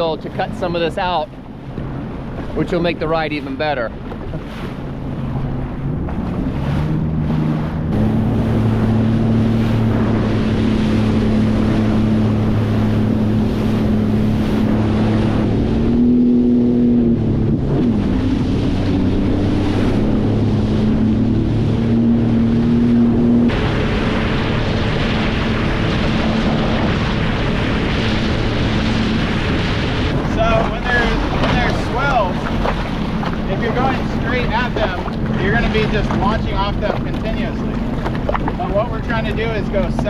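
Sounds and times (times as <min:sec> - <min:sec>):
jet ski engine running: 0:00.0 - 0:40.0
wind rushing on microphone: 0:00.0 - 0:40.0.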